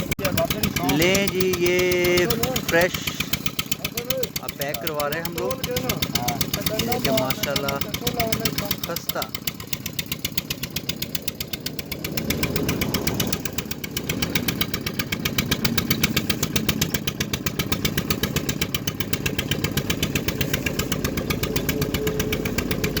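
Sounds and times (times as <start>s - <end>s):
engine thumping steadily: 0.0s - 23.0s.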